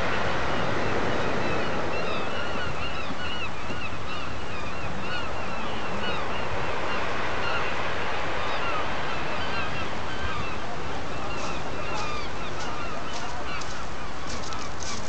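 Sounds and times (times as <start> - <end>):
surf on shingle beach: 0.0 - 15.0
wind: 0.0 - 15.0.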